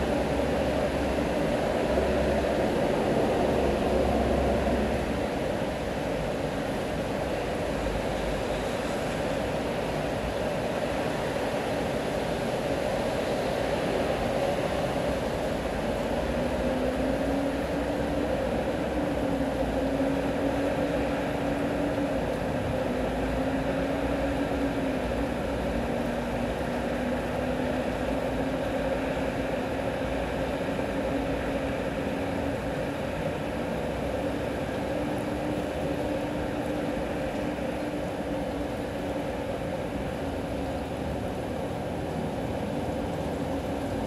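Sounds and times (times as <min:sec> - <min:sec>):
city traffic hum: 0:00.0 - 0:44.0
steady rain: 0:00.0 - 0:44.0.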